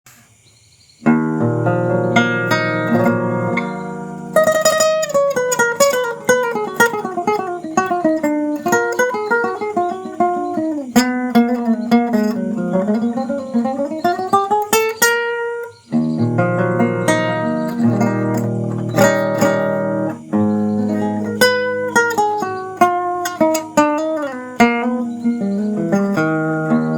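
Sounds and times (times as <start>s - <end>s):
acoustic guitar chords: 1.0s - 26.9s
acoustic guitar picked notes: 1.0s - 26.9s.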